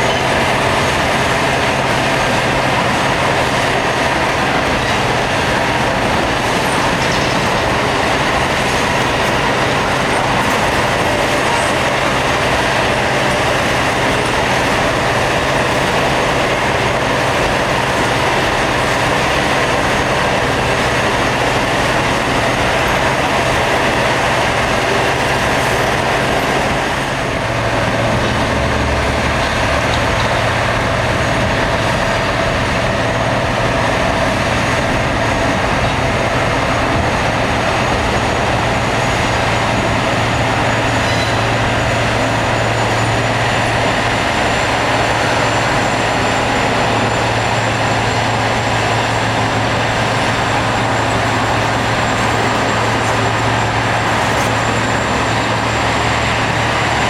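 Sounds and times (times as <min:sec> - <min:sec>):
abrasive wheels grinding rail: 0:00.0 - 0:57.0
diesel engines humming: 0:00.0 - 0:57.0.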